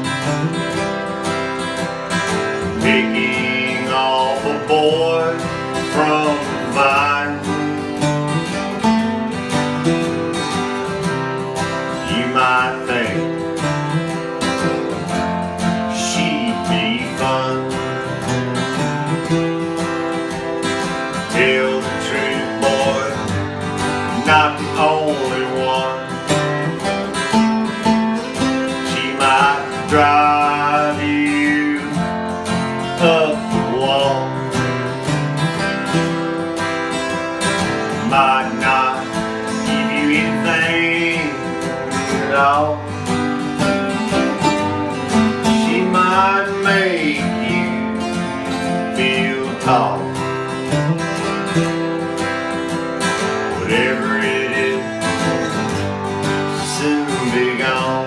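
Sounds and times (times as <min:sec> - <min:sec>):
acoustic guitars playing country song: 0:00.0 - 0:58.0.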